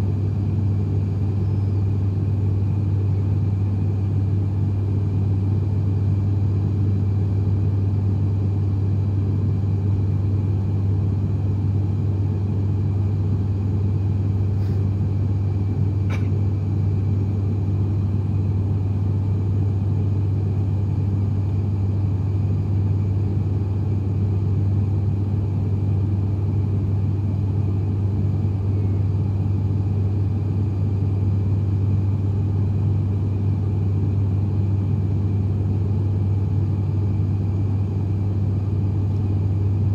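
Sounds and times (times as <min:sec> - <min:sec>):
propeller plane cabin drone: 0:00.0 - 0:39.9.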